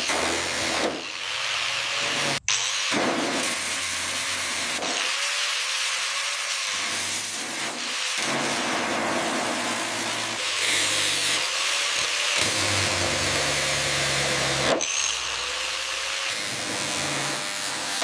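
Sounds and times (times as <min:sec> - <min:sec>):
power tool whirring: 0:00.0 - 0:18.0.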